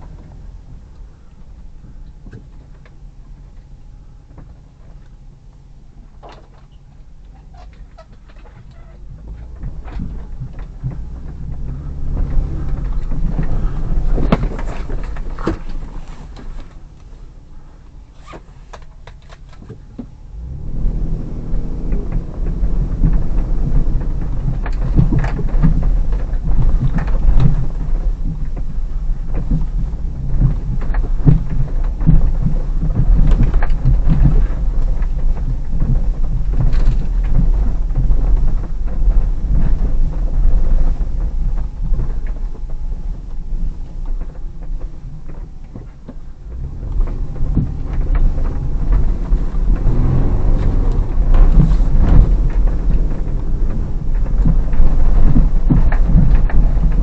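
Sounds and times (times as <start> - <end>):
engine and tyres rumbling: 0.0 - 57.0
vehicle knocks and clunks: 0.0 - 57.0.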